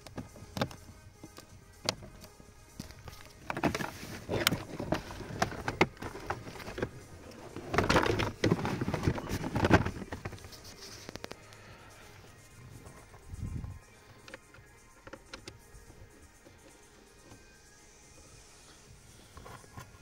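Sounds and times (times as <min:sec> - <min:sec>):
rustling and scraping: 0:00.0 - 0:20.0.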